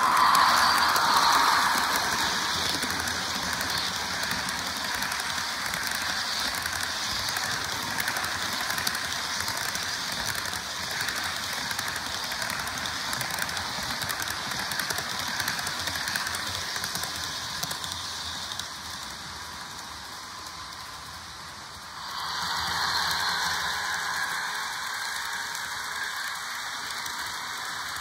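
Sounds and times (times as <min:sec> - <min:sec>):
model locomotive hissing rumble: 0:00.0 - 0:28.0.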